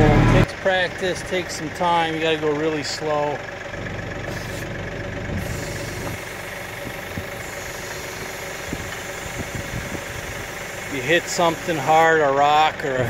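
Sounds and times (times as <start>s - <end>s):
diesel tractor engine idling: 0.0s - 13.0s.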